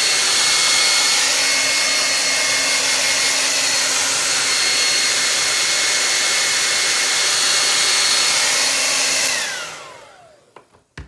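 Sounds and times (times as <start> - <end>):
hair dryer blowing: 0.0 - 10.7.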